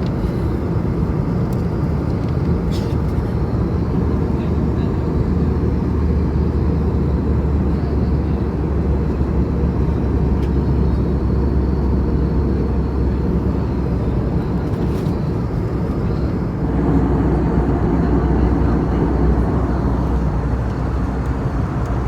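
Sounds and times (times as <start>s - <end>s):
airplane engine and airflow roar: 0.0s - 22.0s.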